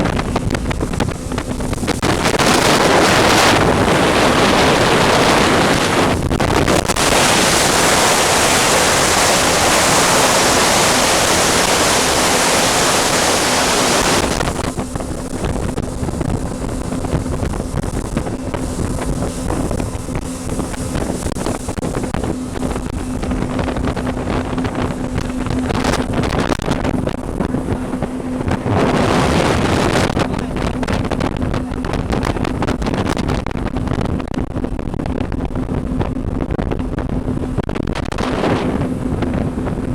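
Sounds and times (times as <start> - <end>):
boat engine hum: 0.0 - 39.9
water noise: 0.0 - 39.9
wind blasting the microphone: 0.0 - 39.9.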